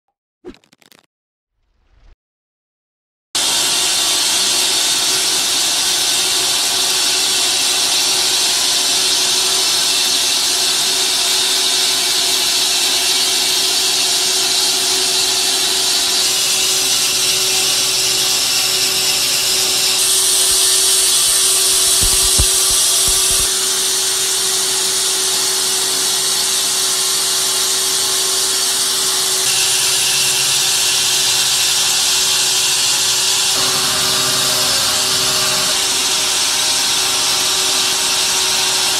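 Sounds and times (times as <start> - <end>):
band saw cutting a log: 3.4 - 38.9.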